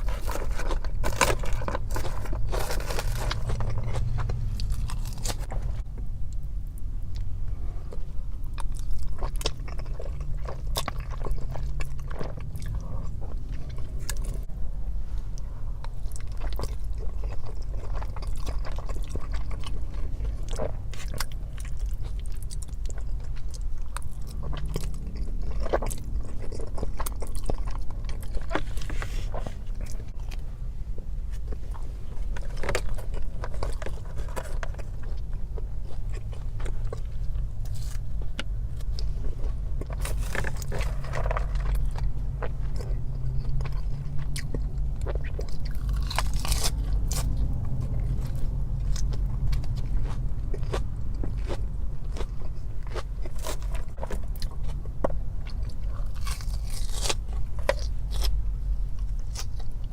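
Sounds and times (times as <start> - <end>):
close-miked chewing food: 0.0 - 14.5, 15.4 - 59.9
steady low hum: 0.0 - 59.9.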